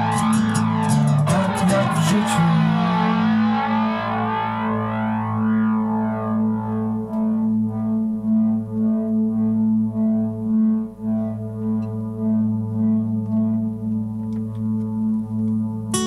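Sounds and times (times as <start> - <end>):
ambient guitar drone: 0.0 - 16.0.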